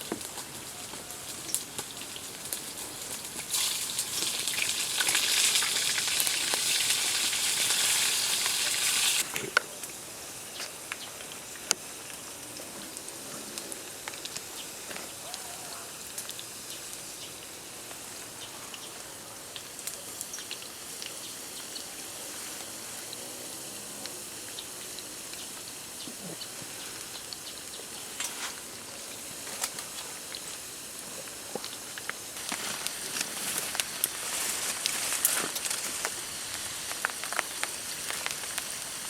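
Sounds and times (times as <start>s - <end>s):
rain pattering: 0.0s - 39.0s.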